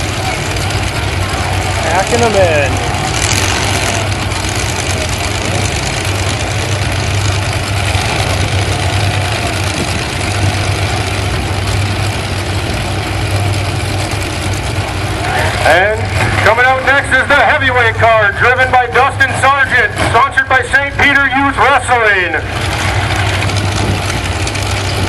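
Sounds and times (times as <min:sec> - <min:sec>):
truck engines idling: 0:00.0 - 0:25.0.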